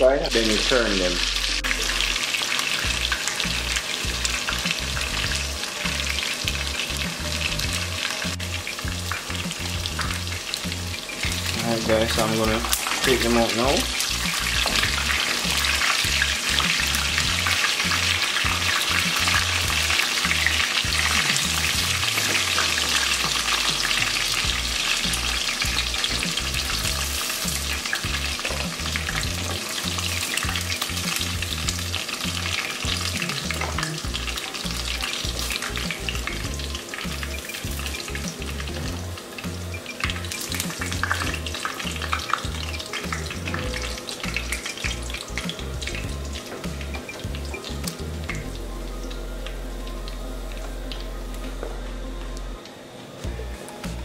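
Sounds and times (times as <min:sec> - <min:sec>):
chicken sizzling in hot oil: 0:00.2 - 0:51.6.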